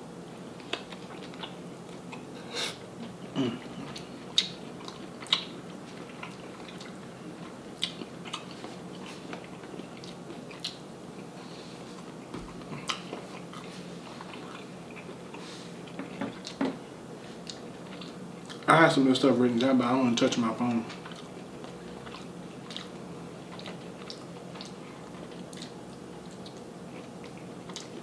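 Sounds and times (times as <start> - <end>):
person chewing food: 0.6 - 18.7, 20.9 - 28.0.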